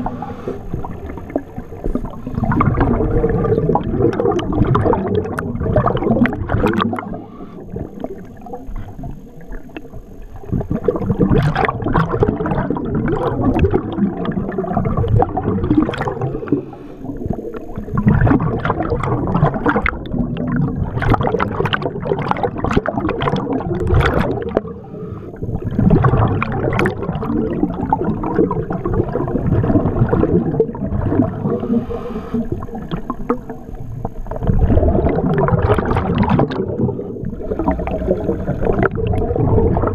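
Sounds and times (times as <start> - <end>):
regulator bubbling underwater: 0.0 - 39.9.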